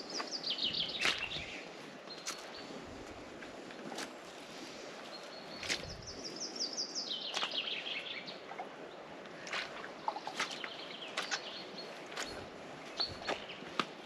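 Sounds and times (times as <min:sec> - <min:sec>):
songbird singing: 0:00.0 - 0:14.0
steady outdoor hiss: 0:00.0 - 0:14.0.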